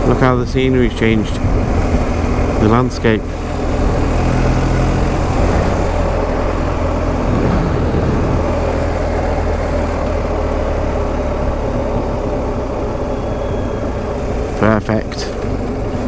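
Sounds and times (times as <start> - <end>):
wind noise: 0.0 - 14.1
motorcycle engine running: 0.0 - 16.0.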